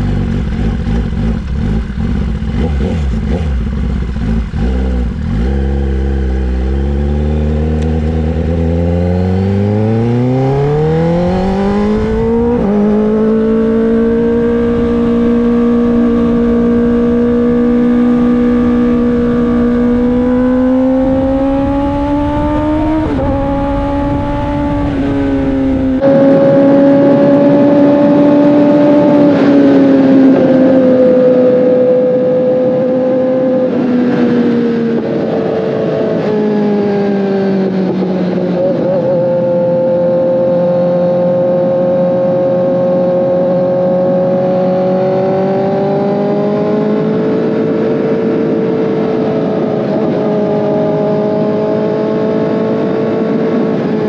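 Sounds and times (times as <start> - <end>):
motorcycle engine revving: 0.0 - 54.0
wind rumble: 0.0 - 54.0.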